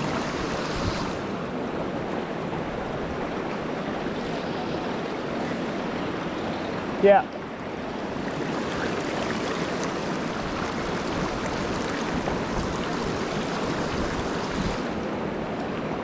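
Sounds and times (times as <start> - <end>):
river running over stones: 0.0 - 16.0.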